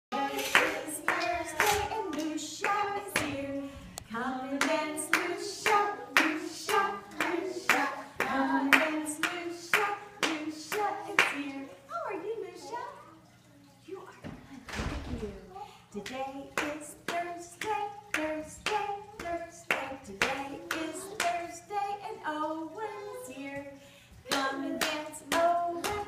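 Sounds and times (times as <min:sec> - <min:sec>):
woman singing: 0:00.1 - 0:11.8, 0:16.0 - 0:26.0.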